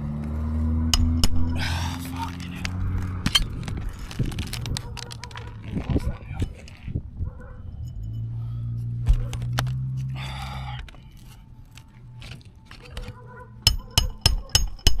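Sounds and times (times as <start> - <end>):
low hum: 0.0 - 4.5, 6.8 - 15.0.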